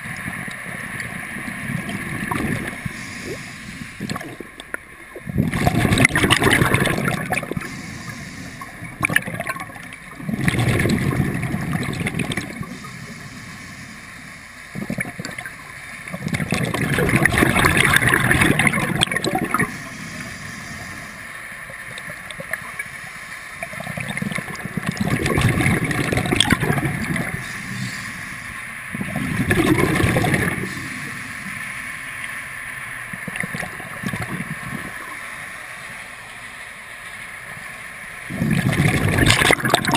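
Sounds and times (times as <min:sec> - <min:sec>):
scuba regulator exhaust bubbles: 0:00.0 - 0:23.0, 0:23.6 - 0:31.9, 0:33.1 - 0:35.2, 0:38.3 - 0:39.9.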